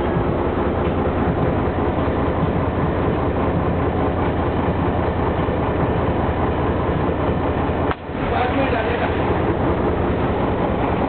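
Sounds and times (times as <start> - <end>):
boat engine rumbling: 0.0 - 11.0
rushing water or wind: 0.0 - 11.0.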